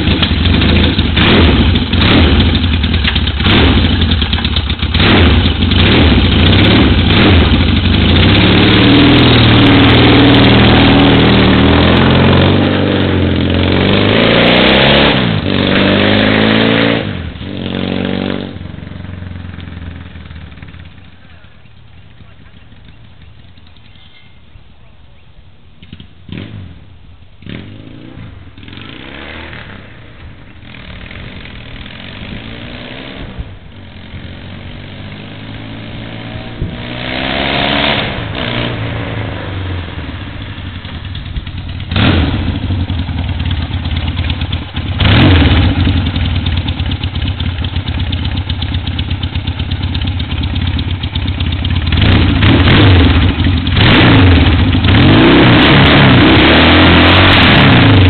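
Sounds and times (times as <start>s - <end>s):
motorcycle engine revving: 0.0s - 24.5s, 25.8s - 58.0s.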